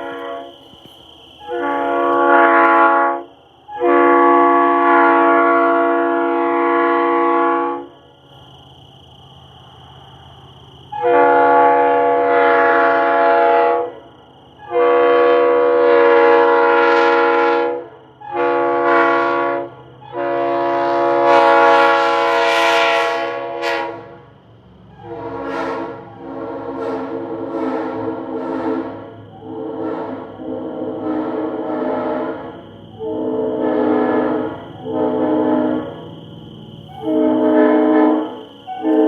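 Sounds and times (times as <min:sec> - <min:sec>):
train horn blasts: 0:00.0 - 0:00.8, 0:01.4 - 0:08.0, 0:10.9 - 0:14.0, 0:14.6 - 0:24.3, 0:24.9 - 0:39.0.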